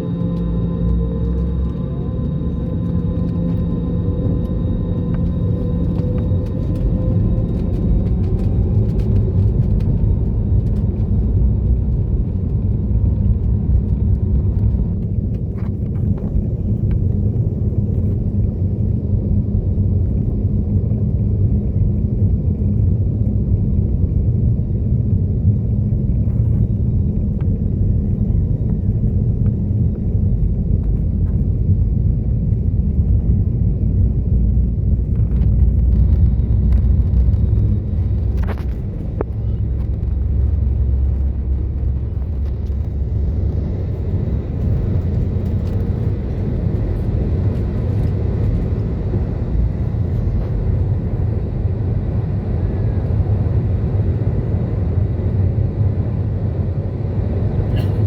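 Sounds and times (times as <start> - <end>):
faint jet engine whine: 0.0 - 58.0
low rumble of engines and runway: 0.0 - 58.0.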